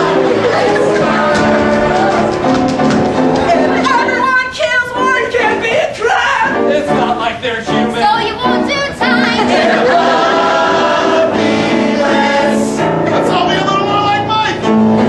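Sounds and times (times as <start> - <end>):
voices singing in harmony: 0.0 - 13.5.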